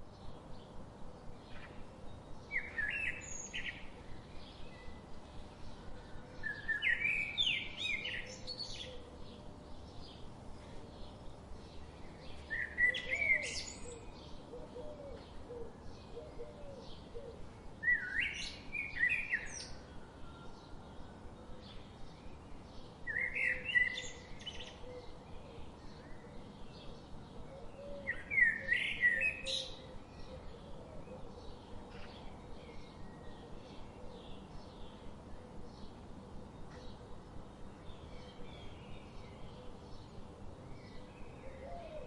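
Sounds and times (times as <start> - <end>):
faint bird chirping: 0.0 - 42.0
bird singing song phrase: 0.1 - 42.0.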